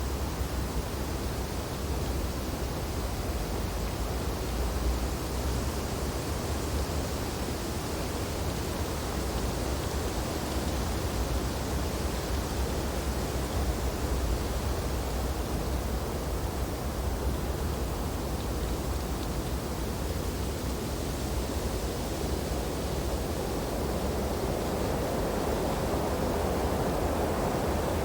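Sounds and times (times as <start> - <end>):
wind through tree branches: 0.0 - 28.0.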